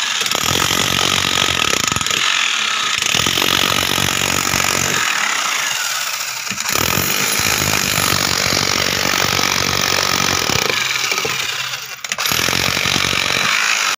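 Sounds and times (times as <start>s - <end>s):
power tool rattling: 0.0s - 14.0s.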